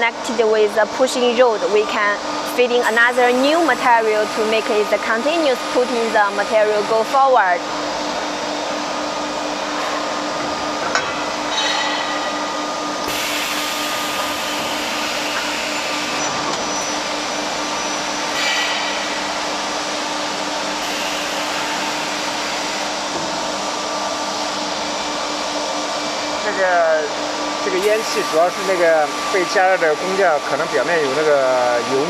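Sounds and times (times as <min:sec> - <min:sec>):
furnace hiss and hum: 0:00.0 - 0:32.0.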